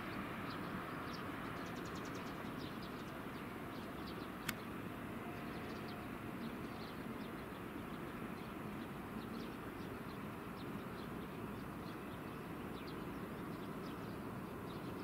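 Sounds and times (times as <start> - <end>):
small birds chirping: 0.1 - 4.8, 5.4 - 15.0.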